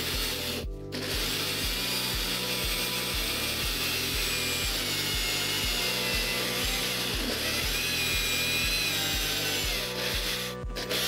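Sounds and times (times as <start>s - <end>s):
background music with beat: 0.0s - 11.0s
electric drill grinding metal: 0.0s - 11.0s.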